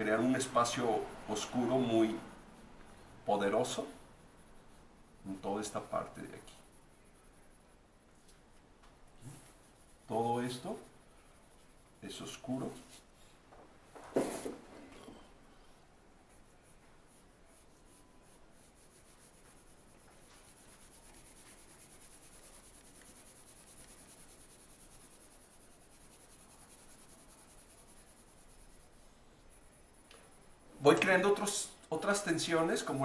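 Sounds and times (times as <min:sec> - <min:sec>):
pencil scratching on paper: 0:00.0 - 0:08.1, 0:09.1 - 0:13.4, 0:15.6 - 0:33.0.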